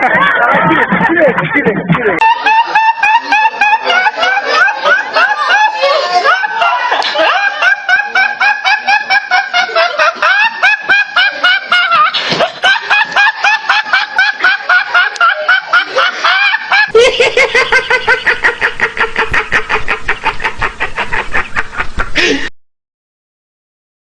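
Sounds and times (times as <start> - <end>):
fast laugh on one pitch: 0.0 - 22.5.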